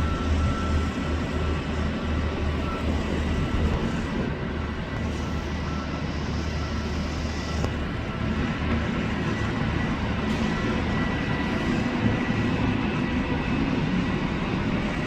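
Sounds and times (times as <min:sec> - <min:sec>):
jet aircraft rumble: 0:00.0 - 0:15.0.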